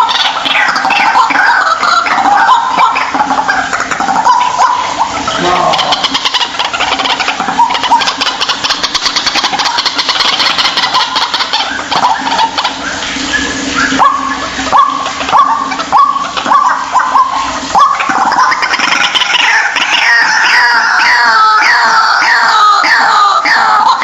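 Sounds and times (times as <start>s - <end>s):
background hiss: 0.0s - 20.5s
waterhen calling: 0.0s - 24.0s.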